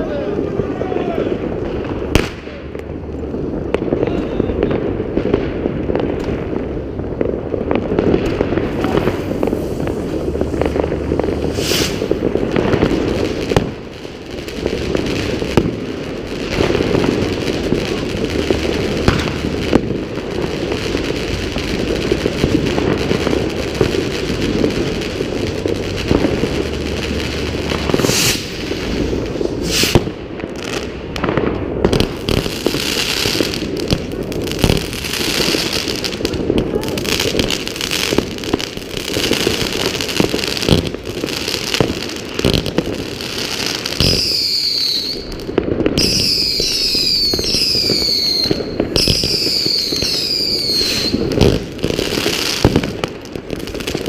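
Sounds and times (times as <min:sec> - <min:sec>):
fireworks and firecrackers crackling: 0:00.0 - 0:54.0
sharp bright firework bursts: 0:00.0 - 0:54.0.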